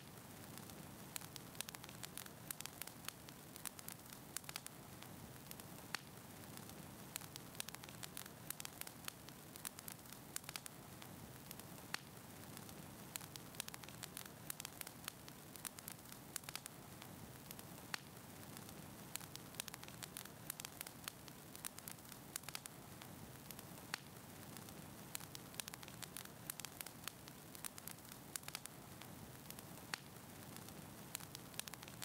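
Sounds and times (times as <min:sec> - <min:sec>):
fire crackling and popping: 0:00.0 - 0:32.0
low steady hiss: 0:00.0 - 0:32.0.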